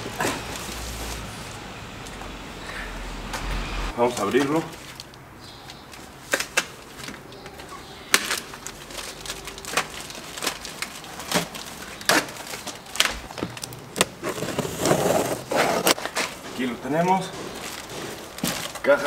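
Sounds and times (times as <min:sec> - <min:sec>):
plastic wrapping crackling and ripping: 0:00.0 - 0:01.6, 0:04.0 - 0:19.0.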